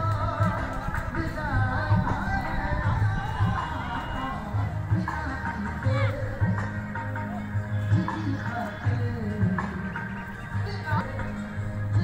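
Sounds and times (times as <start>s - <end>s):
low drum beats: 0.0s - 12.0s
song with sung melody: 0.0s - 12.0s.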